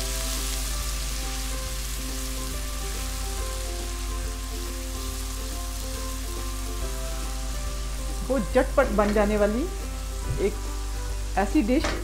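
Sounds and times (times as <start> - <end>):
onion sizzling in oil: 0.0 - 12.0
soft background music: 0.0 - 12.0.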